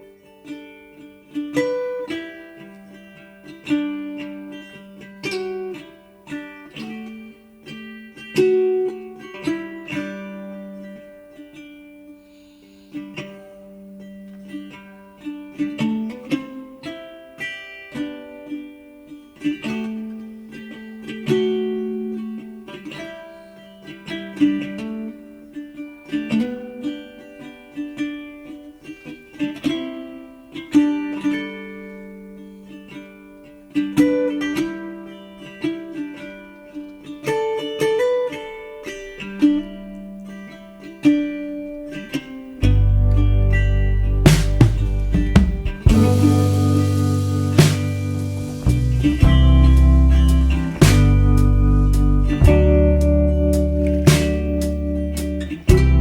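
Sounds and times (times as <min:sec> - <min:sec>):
gentle plucked string music: 0:00.0 - 0:56.0.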